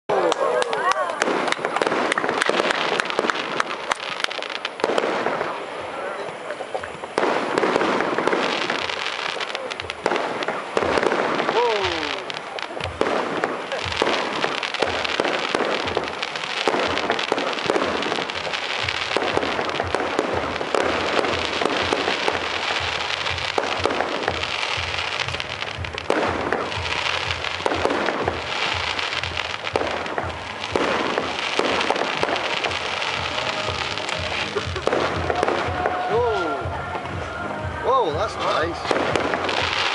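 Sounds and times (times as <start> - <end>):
fireworks bangs and crackling: 0.1 - 39.9.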